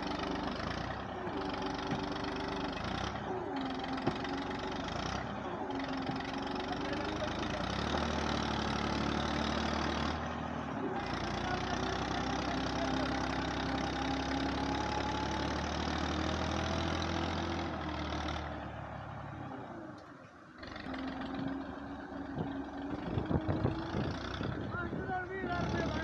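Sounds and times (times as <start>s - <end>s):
tractor diesel engine straining: 0.0s - 26.0s.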